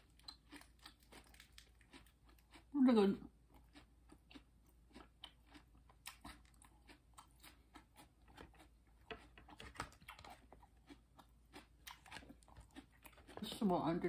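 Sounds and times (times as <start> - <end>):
chewing with soft crunching: 0.0 - 14.0.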